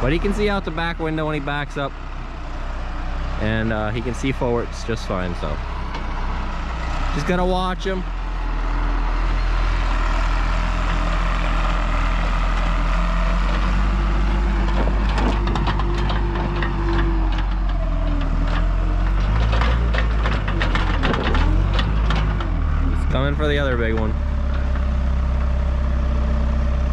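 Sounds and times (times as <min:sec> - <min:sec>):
skid steer engine running: 0:00.0 - 0:26.9.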